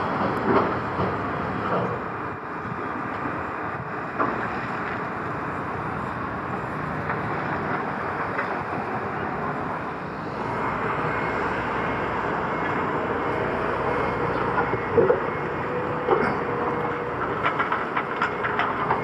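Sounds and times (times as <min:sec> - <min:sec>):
heavy construction machinery running: 0:00.0 - 0:19.0.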